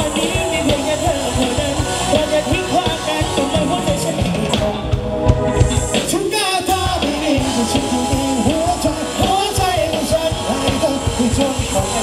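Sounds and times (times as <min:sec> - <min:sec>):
person singing: 0:00.0 - 0:05.1, 0:05.9 - 0:12.0
live band playing dance music: 0:00.0 - 0:12.0.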